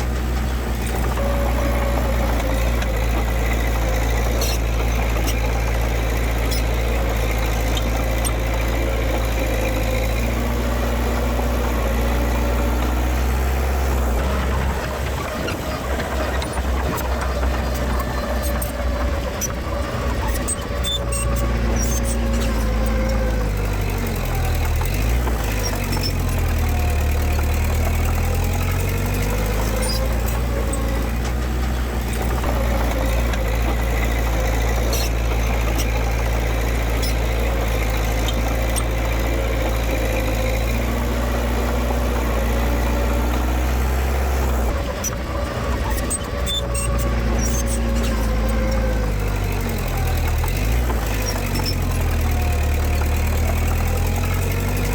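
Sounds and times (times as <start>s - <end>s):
heavy machinery diesel engine: 0.0s - 54.9s.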